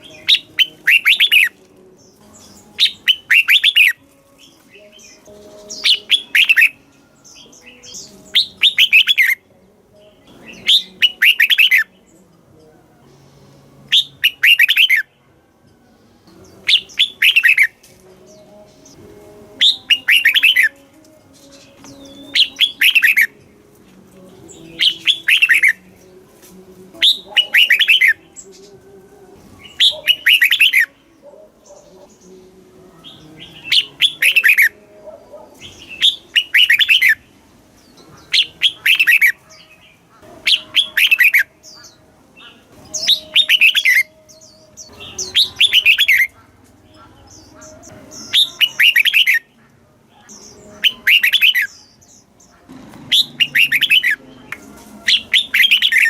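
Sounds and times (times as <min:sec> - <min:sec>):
bulbul singing: 0:00.0 - 0:56.0.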